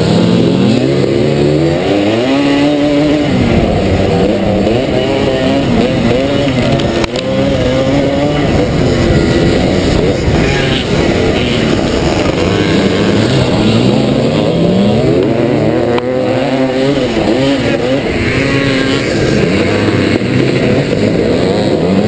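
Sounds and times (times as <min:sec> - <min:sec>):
two-stroke motocross bike revving: 0:00.0 - 0:22.0.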